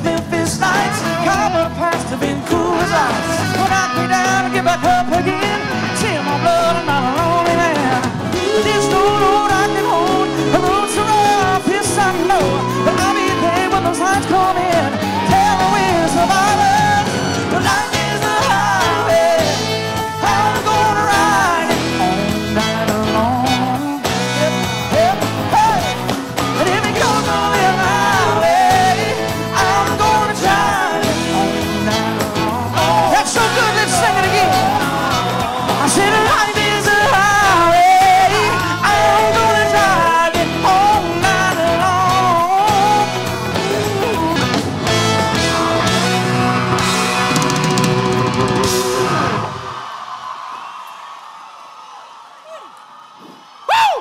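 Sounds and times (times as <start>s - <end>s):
man singing: 0.0s - 48.8s
bass guitar: 0.0s - 49.8s
electric guitars: 0.0s - 49.9s
live country band playing: 0.0s - 49.9s
drums: 0.0s - 51.1s.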